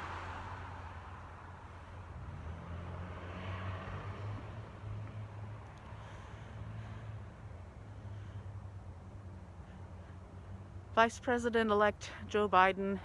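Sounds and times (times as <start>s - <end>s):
passing car: 0.0s - 13.0s.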